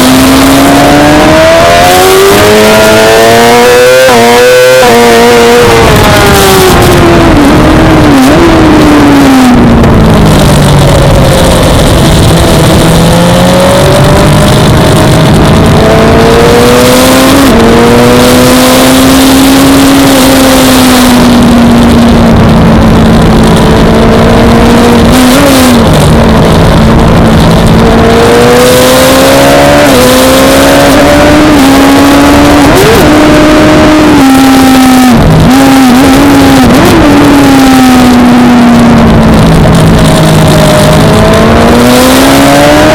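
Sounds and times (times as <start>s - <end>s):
sportbike engine running hard: 0.0s - 42.9s.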